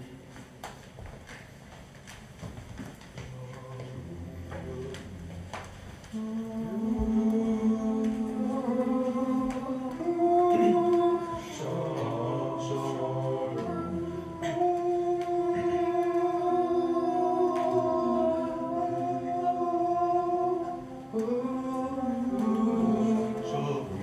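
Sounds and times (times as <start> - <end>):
boys singing in harmony: 3.2 - 24.0.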